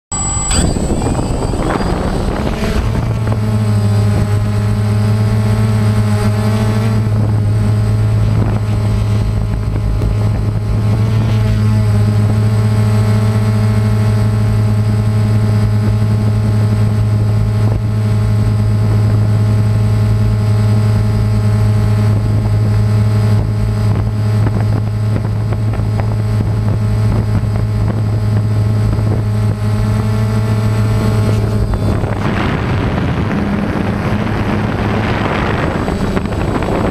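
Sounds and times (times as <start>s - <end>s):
quadcopter motors droning: 0.1s - 36.9s.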